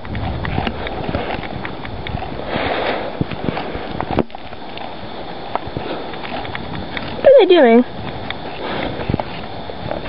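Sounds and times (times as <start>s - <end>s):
steady hiss: 0.2s - 10.0s.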